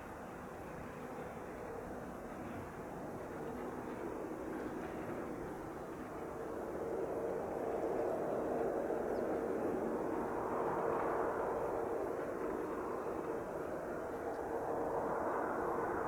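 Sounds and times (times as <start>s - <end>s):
jet engines hum: 0.0s - 16.0s.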